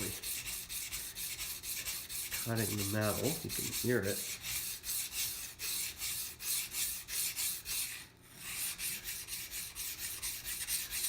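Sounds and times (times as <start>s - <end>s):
knife scraping on whetstone: 0.0s - 11.0s.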